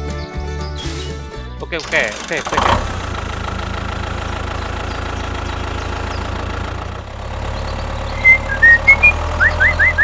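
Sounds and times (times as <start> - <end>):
tractor engine chugging: 1.7 - 10.0.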